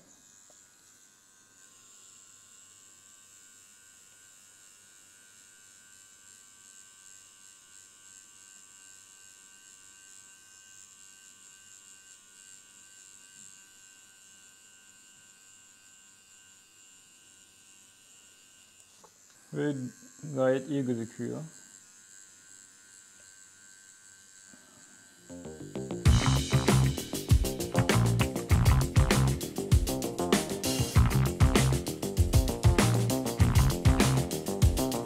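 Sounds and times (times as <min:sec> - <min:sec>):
tattoo machine buzzing: 0:00.0 - 0:35.0.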